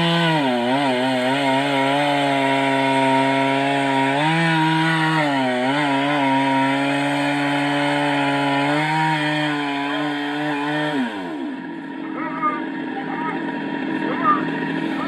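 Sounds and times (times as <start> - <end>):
chainsaw cutting tree: 0.0 - 15.0.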